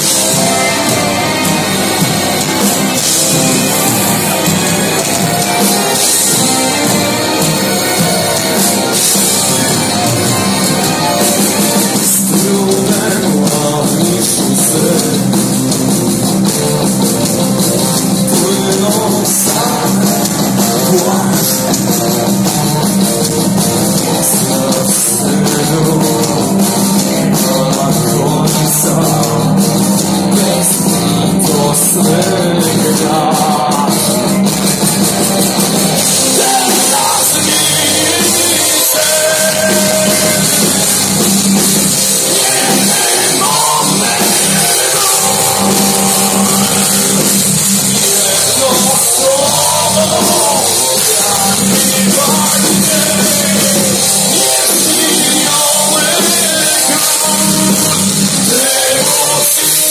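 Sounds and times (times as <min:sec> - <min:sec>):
cymbals: 0:00.0 - 0:59.9
distorted electric guitars: 0:00.0 - 0:59.9
drum kit: 0:00.0 - 0:59.9.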